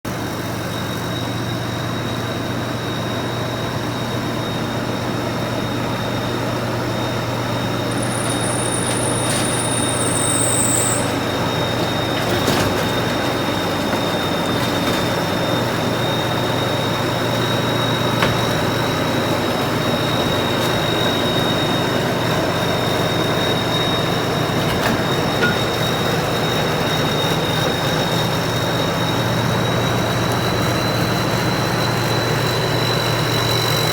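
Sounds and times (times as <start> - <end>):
combine harvester engine drone: 0.1 - 33.9
falling whistle: 0.1 - 33.9
high-pitched whine: 0.1 - 33.9.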